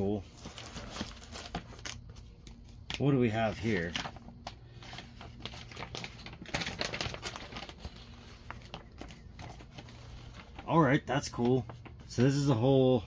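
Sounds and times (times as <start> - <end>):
paper map crackling: 0.0 - 13.0.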